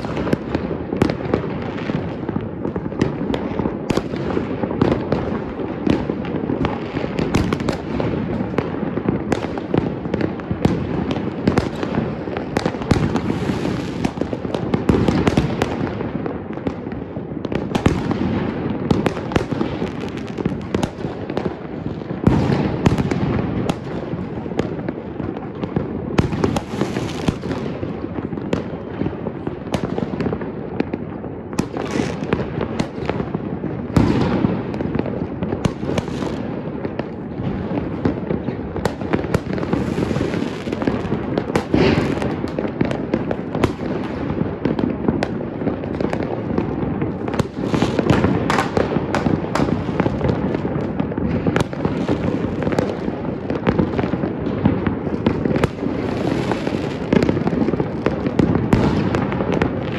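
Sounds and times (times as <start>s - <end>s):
fireworks and firecrackers crackling: 0.0s - 59.9s
loud single firework bangs: 0.0s - 59.9s.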